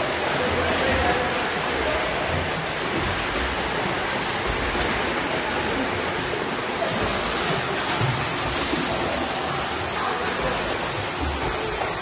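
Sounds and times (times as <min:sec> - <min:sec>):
swimmers splashing in pool water: 0:00.0 - 0:12.0.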